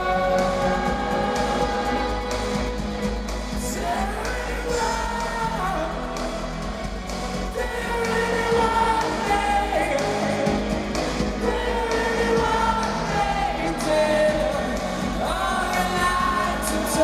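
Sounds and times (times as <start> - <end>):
rock band playing with singing: 0.0 - 17.0.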